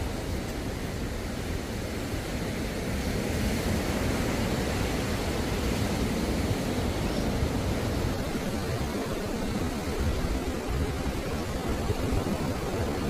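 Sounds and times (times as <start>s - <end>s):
waves breaking on sandy beach: 0.0s - 13.0s.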